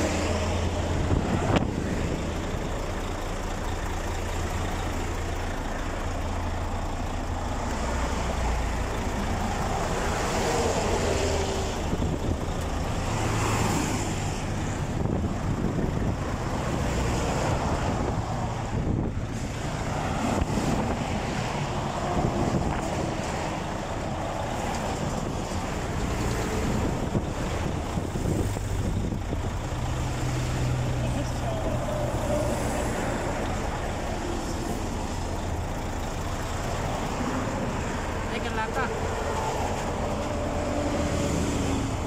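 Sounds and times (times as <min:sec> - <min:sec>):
highway traffic rushing by: 0:00.0 - 0:42.0.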